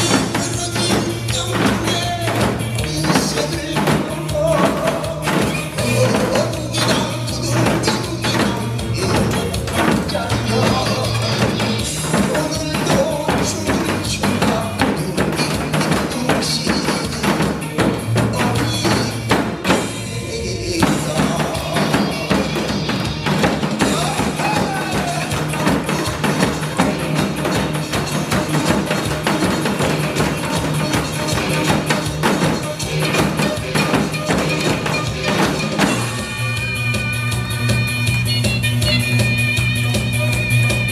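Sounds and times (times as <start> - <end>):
upbeat recorded music: 0.0 - 40.9.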